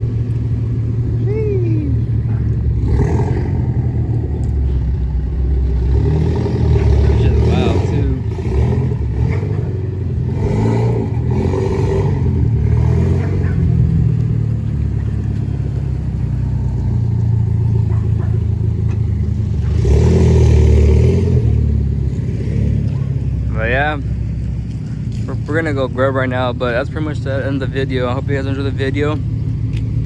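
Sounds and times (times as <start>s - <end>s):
car engine and exhaust: 0.0s - 30.0s.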